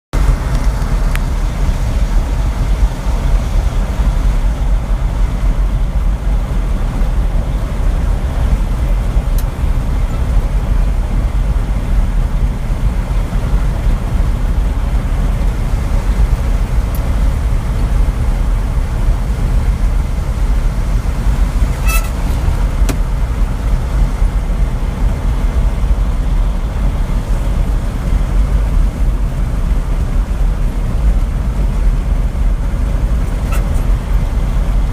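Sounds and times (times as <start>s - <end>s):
truck engine and road noise: 0.1s - 34.9s.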